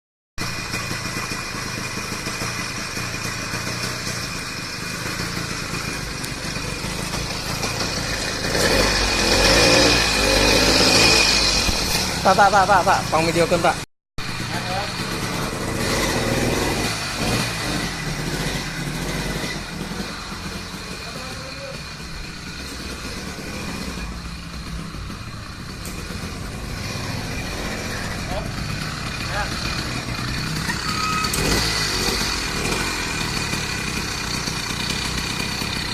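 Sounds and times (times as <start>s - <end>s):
two-stroke engine running: 0.4s - 35.9s.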